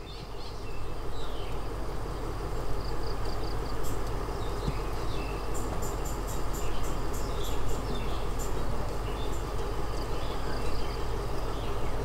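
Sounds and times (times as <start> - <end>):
birds chirping: 0.0 - 12.0
idling diesel train rumble: 0.0 - 12.0.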